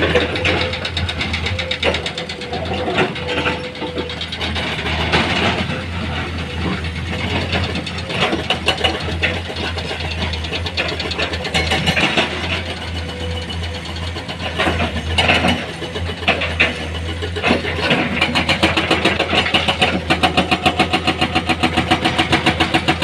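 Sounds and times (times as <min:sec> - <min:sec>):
diesel engine running: 0:00.0 - 0:23.0
knocks and clatters: 0:00.0 - 0:23.0.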